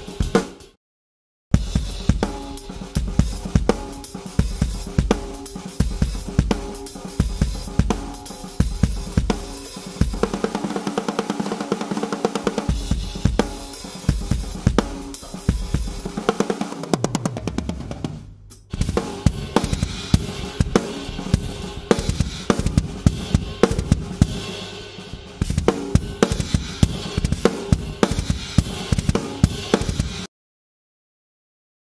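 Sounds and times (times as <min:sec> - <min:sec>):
drum kit playing: 0:00.0 - 0:00.8, 0:01.5 - 0:30.3.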